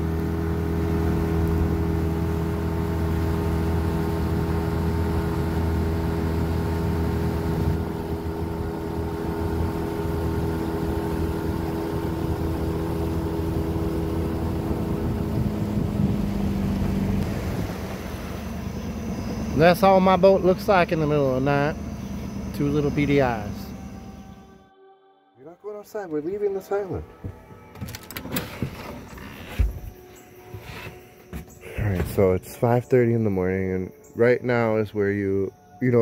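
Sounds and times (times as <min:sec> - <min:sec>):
boat motor running: 0:00.0 - 0:24.7, 0:25.9 - 0:32.8.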